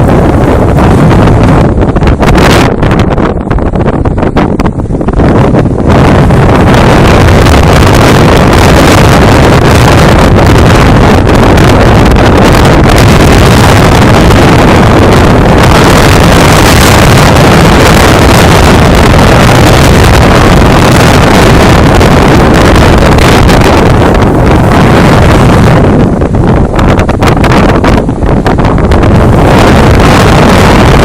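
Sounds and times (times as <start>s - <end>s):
strong wind on microphone: 0.0s - 31.0s.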